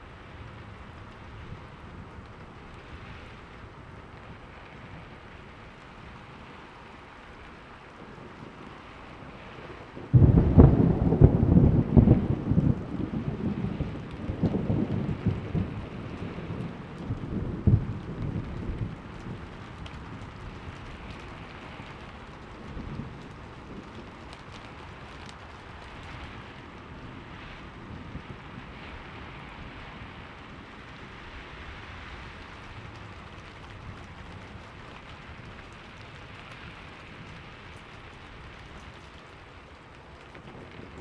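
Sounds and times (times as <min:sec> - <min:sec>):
steady rain hissing: 0:00.0 - 0:41.0
thunder rumble: 0:00.0 - 0:41.0.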